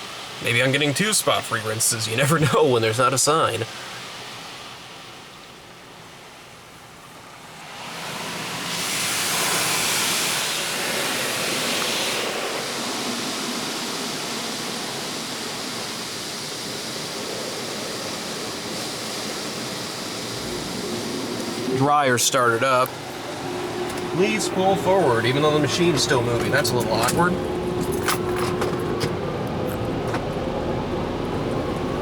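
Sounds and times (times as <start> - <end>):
automatic car wash rushing: 0.0 - 4.7, 7.2 - 32.0.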